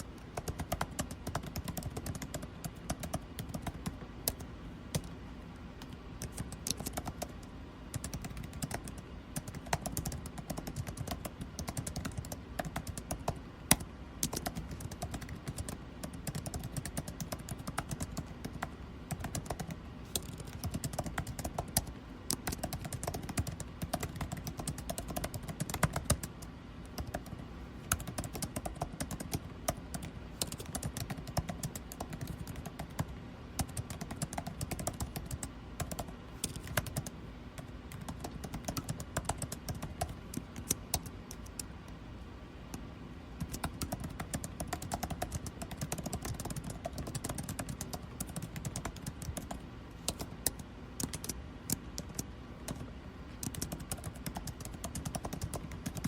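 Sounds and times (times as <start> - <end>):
keyboard typing clicks: 0.0 - 5.2, 5.8 - 42.0, 43.4 - 56.0
air conditioner hum: 0.0 - 56.0.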